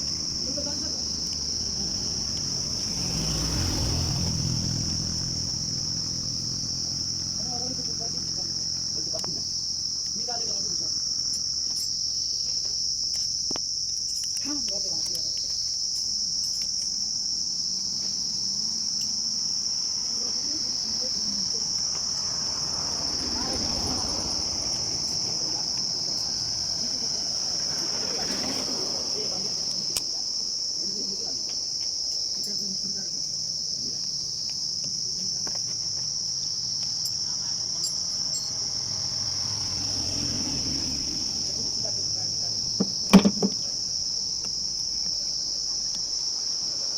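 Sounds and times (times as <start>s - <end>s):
insects chirring: 0.0s - 46.9s.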